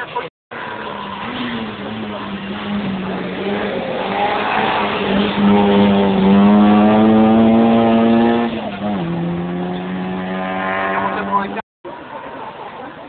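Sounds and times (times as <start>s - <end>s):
race car engine at full throttle: 0.0s - 11.6s.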